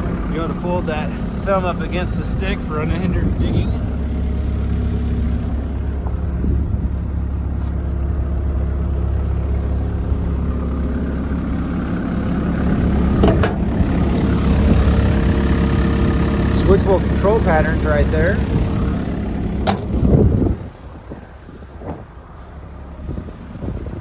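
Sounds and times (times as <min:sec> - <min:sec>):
excavator diesel engine idling: 0:00.0 - 0:24.0.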